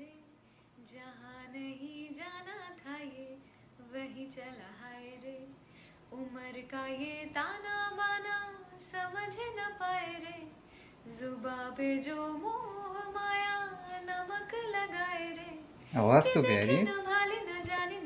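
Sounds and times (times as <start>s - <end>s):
woman singing slow melody: 0.0s - 15.9s, 16.6s - 18.0s.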